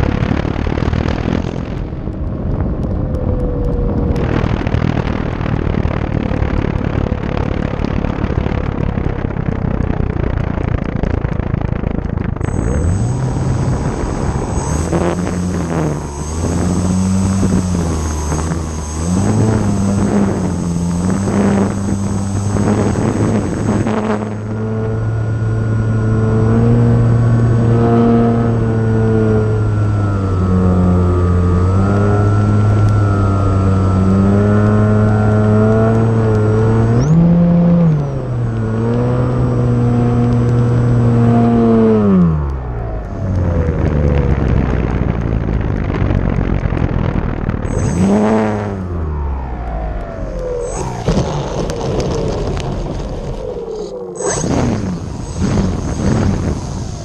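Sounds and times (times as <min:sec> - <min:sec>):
model plane motor and propeller: 0:00.0 - 0:57.0
wind on microphone: 0:00.0 - 0:57.0.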